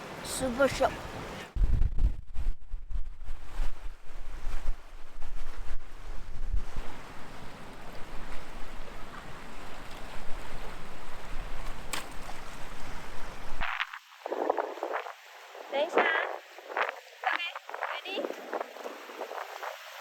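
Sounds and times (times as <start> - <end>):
wind buffeting microphone: 0.2 - 20.0.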